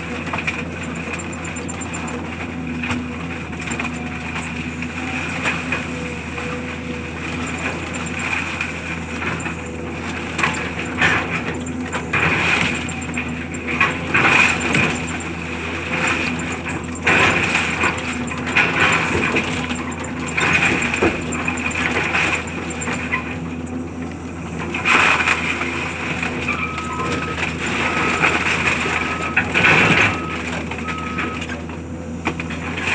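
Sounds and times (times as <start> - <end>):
debris crushed and clattering: 0.0 - 23.8, 24.4 - 32.9
heavy machine engine running: 0.0 - 32.9.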